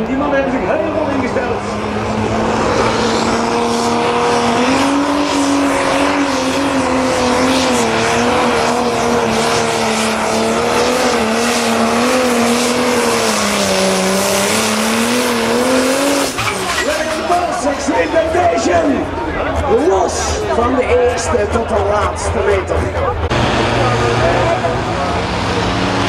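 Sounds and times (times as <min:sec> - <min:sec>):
diesel tractor engine under load: 0:00.0 - 0:26.0.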